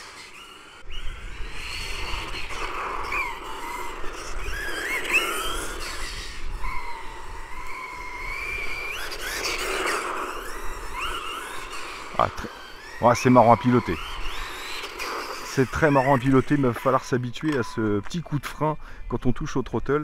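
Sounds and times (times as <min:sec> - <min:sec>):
electric motor whining: 0:00.0 - 0:18.6.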